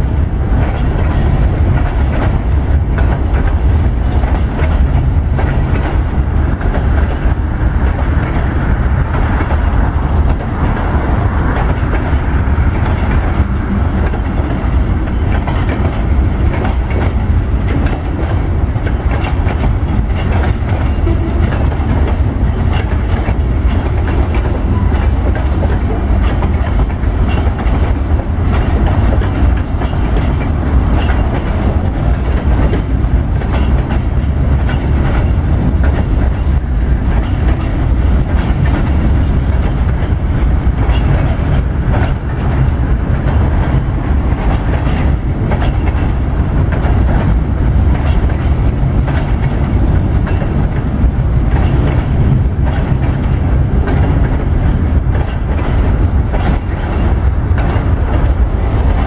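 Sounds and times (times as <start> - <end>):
freight train rumbling past: 0.0 - 59.0
wheels clicking over rail joints: 0.0 - 59.0.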